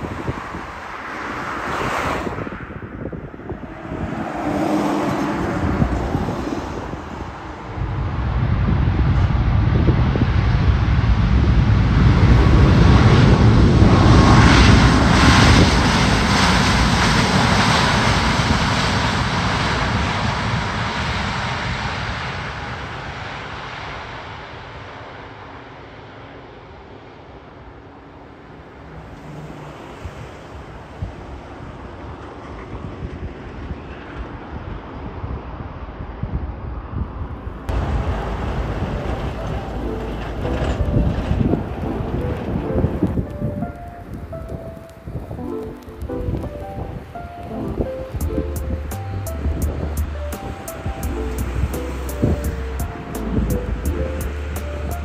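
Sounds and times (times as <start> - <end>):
wind buffeting microphone: 0.0 - 23.0, 29.8 - 55.0
jet engines rumbling on takeoff: 0.0 - 55.0.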